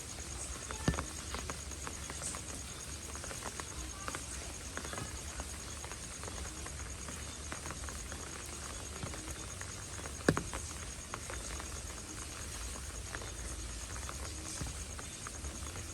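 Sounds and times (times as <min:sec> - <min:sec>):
rain falling on pavement: 0:00.0 - 0:15.9.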